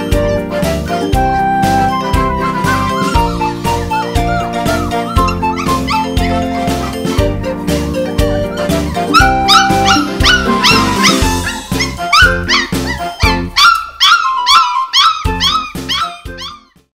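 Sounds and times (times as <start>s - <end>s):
background music with steady beat: 0.0s - 14.1s
puppies yipping and whining: 0.0s - 16.9s.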